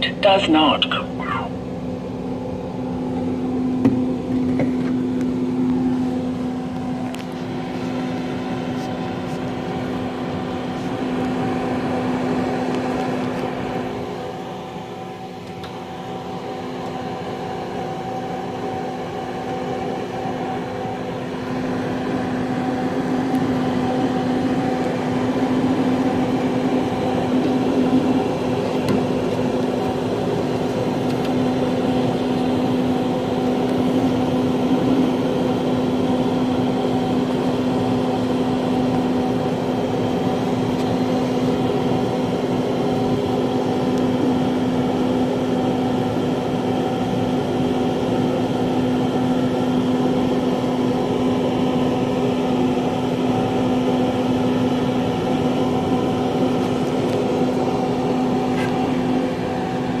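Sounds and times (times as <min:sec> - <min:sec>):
refrigerator cooling fan hum: 0:00.0 - 1:00.0.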